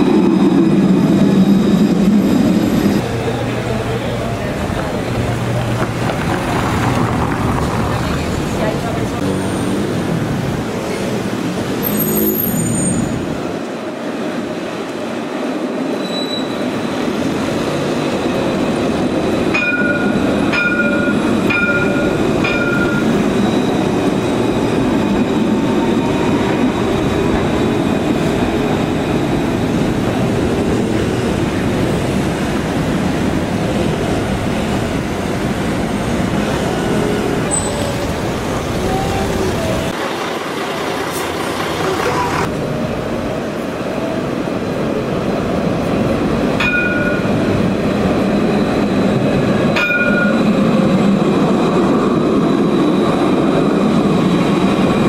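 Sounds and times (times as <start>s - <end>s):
street traffic: 0.0s - 55.0s
tram wheels rumbling on rails: 0.0s - 55.0s.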